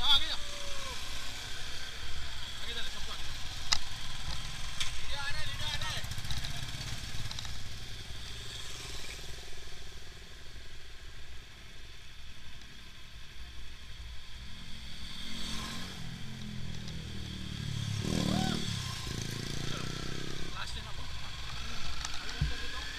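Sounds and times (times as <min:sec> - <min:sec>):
motorcycles riding past: 0:00.0 - 0:11.2, 0:14.0 - 0:22.9.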